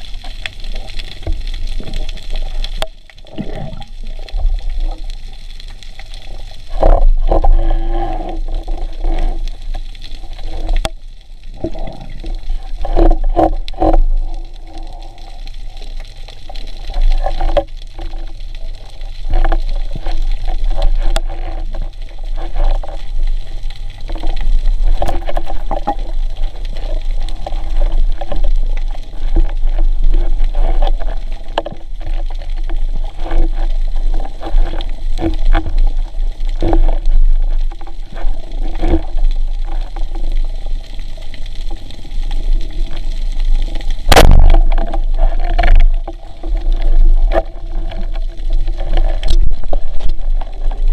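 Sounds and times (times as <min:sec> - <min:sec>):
clicks and crackles: 0:00.0 - 0:50.9
underwater rumble and drone: 0:00.0 - 0:50.9.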